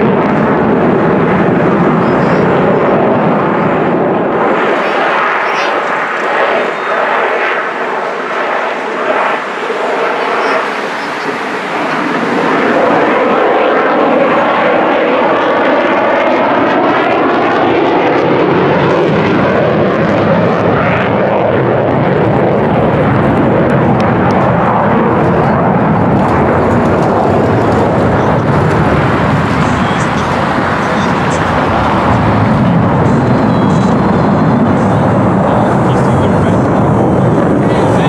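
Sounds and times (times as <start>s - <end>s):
jet engine roaring overhead: 0.0s - 38.0s.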